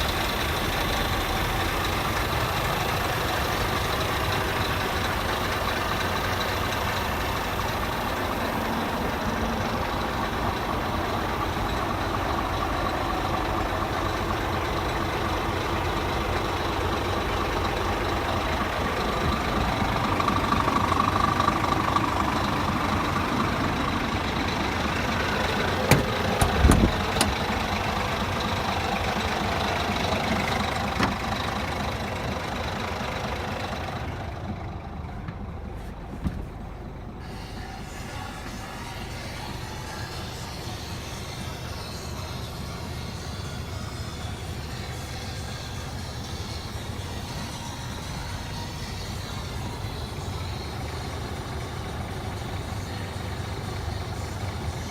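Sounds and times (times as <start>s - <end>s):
truck diesel engine idling: 0.0s - 54.9s.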